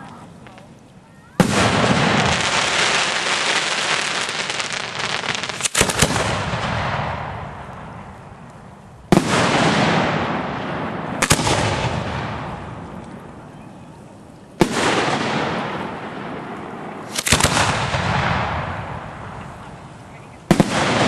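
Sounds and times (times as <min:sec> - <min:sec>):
fireworks exploding: 0:00.0 - 0:21.0
hissing crackle of fireworks: 0:00.0 - 0:21.0.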